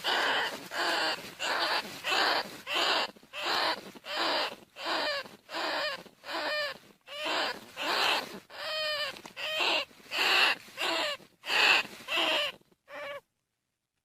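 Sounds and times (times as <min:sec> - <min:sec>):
rat squealing: 0:00.0 - 0:13.2.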